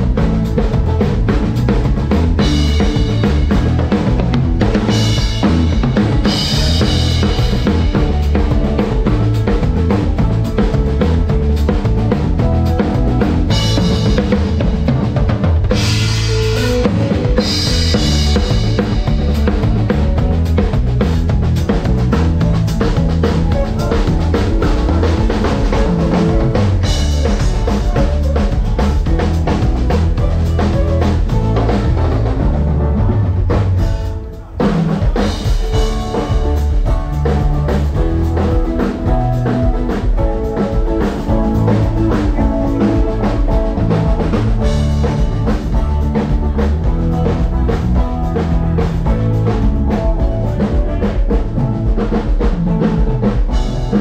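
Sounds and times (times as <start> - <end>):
band music with drum kit: 0.0 - 54.0.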